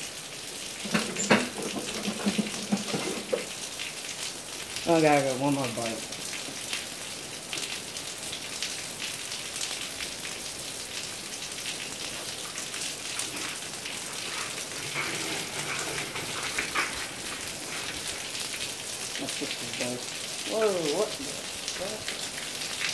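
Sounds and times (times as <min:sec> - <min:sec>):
heavy rain on pavement: 0:00.0 - 0:22.9
raindrops ticking: 0:00.0 - 0:22.9.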